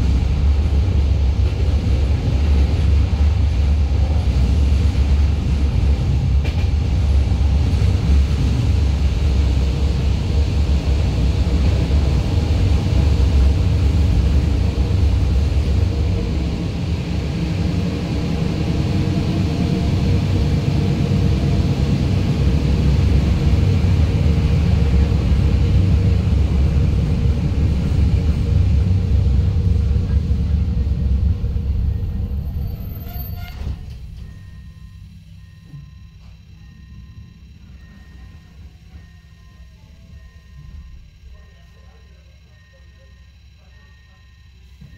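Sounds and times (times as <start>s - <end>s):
train wheels rumbling on track: 0.0s - 44.9s.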